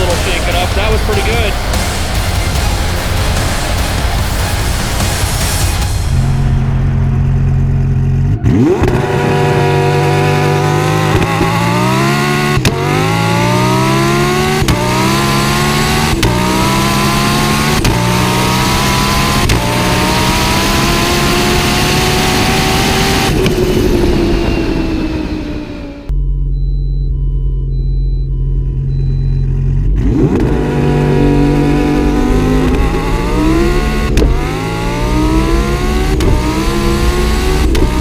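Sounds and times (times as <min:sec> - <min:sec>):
sports car engine accelerating: 0:00.0 - 0:38.0.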